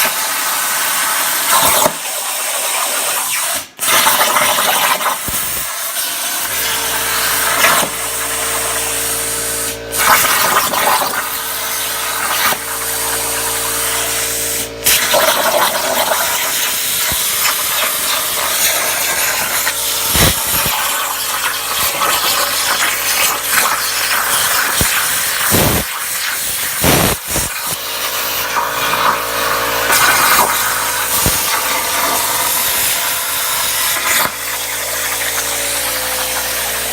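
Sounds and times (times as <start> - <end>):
plasma cutter arc hissing: 0.0 - 36.9
machine hum: 6.5 - 36.9.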